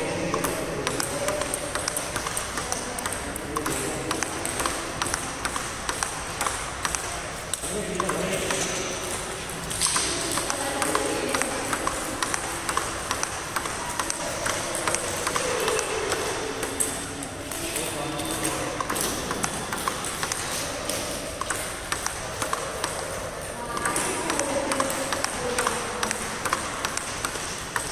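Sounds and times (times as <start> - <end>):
table tennis ball hitting paddles and table: 0.0 - 27.9.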